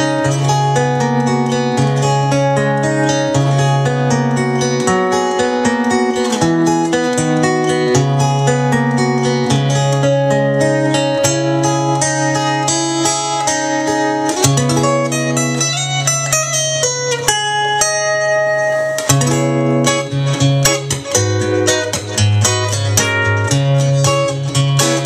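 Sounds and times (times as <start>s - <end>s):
fingerpicked acoustic guitar: 0.0s - 25.0s.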